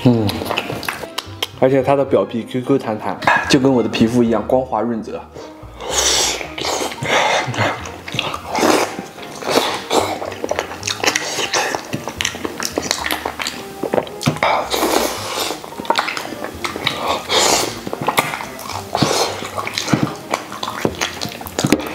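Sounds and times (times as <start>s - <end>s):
wet chewing and sucking: 0.0s - 1.6s, 5.4s - 21.9s.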